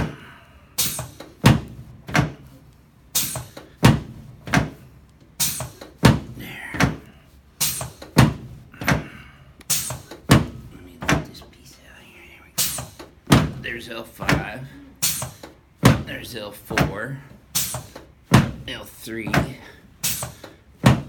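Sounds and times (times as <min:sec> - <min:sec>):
sharp knocks of back adjustment: 0:00.8 - 0:02.5, 0:03.2 - 0:11.3, 0:12.6 - 0:17.0, 0:17.6 - 0:21.0.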